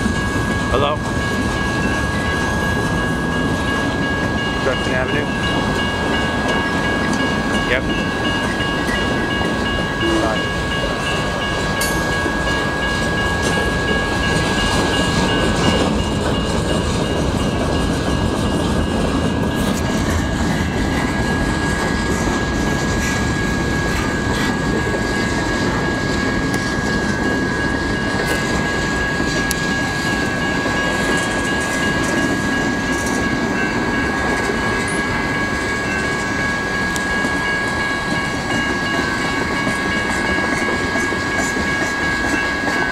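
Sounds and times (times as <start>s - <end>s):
crossing bells ringing: 0.0s - 42.9s
freight train rolling past: 0.0s - 42.9s.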